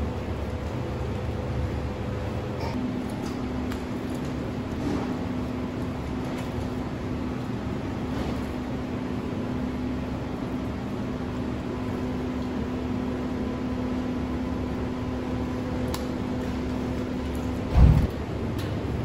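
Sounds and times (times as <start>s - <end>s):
kitchen machine hum: 0.0s - 19.0s.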